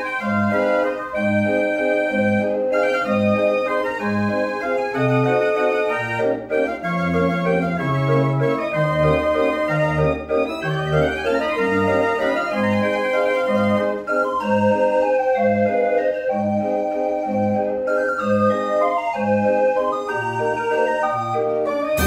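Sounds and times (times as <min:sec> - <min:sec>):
street organ playing: 0:00.0 - 0:22.0.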